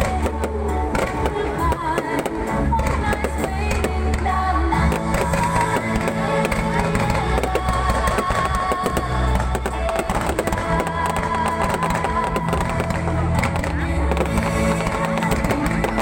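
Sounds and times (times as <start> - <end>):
fireworks pops and crackles: 0.0 - 16.0
loud music with bass line: 0.0 - 16.0.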